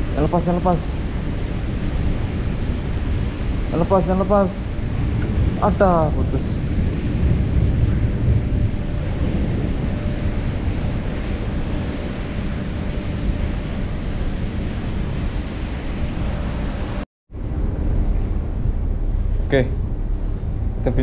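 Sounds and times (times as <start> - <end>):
sea water washing around boat: 0.0 - 17.0
faint steady hum: 0.0 - 21.0
wind on microphone: 0.0 - 21.0.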